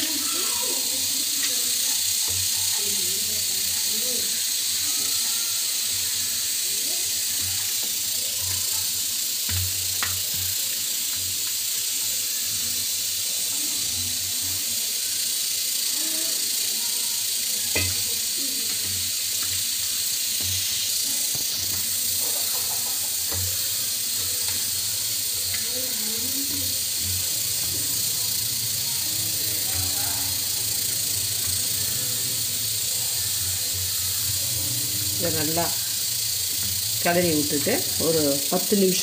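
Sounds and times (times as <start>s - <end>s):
steady hiss: 0.0s - 39.0s.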